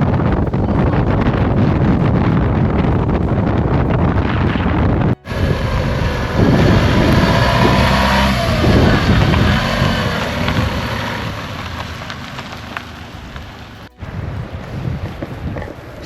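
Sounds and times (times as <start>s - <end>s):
motor vehicle running: 0.0s - 16.0s.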